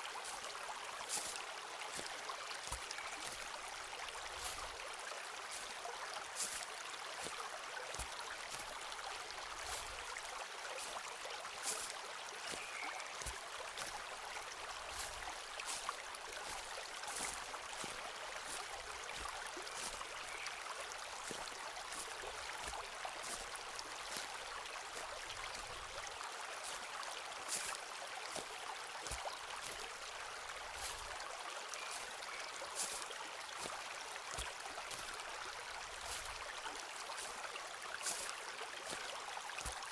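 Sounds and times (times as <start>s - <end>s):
stream rushing: 0.0s - 39.9s
footsteps crunching on forest floor: 0.2s - 39.9s.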